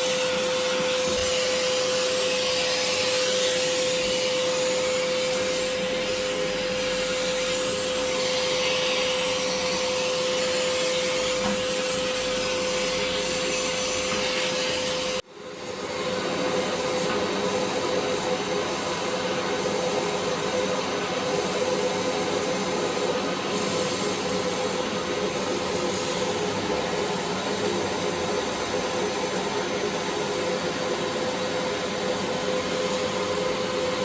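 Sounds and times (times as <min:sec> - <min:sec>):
vacuum cleaner whining: 0:00.0 - 0:34.0.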